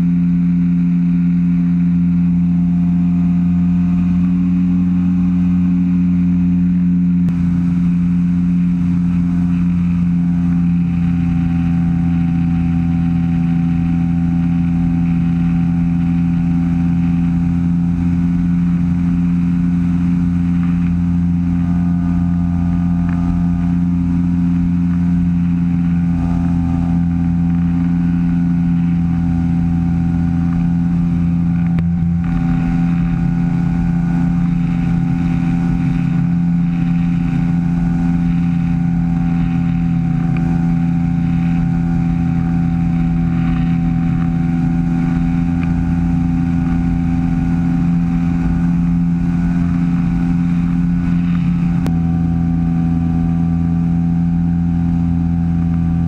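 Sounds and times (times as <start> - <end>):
microlight engine droning: 0.0 - 56.0.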